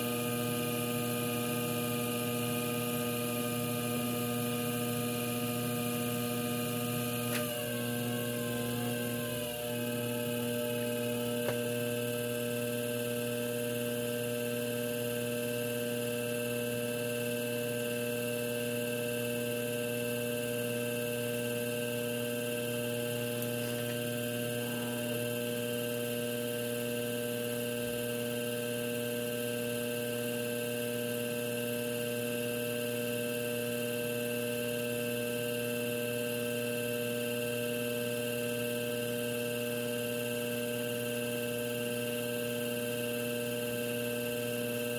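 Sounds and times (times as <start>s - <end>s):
potter's wheel motor humming: 0.0s - 44.9s.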